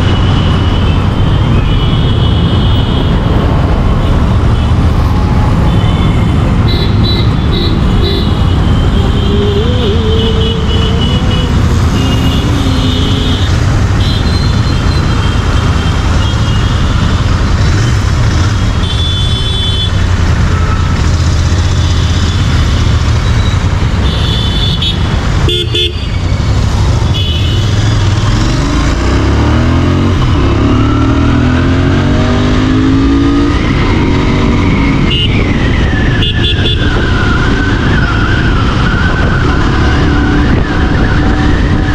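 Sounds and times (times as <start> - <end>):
motorcycle engine running and revving: 0.0 - 41.9.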